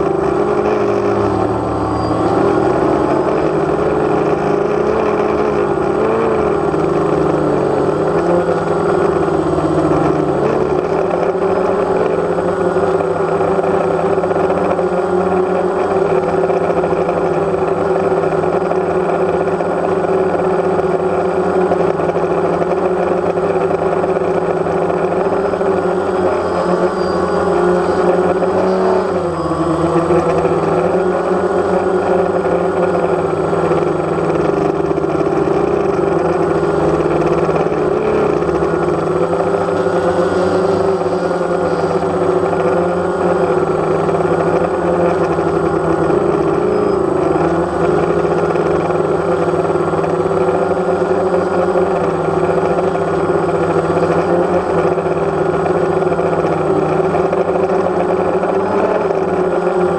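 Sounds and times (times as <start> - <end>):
drone propellers whirring: 0.0 - 59.9.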